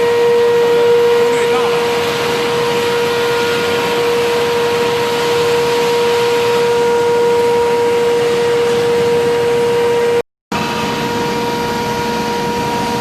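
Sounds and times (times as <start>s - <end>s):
furnace humming: 0.0s - 13.0s
workshop noise: 0.0s - 13.0s.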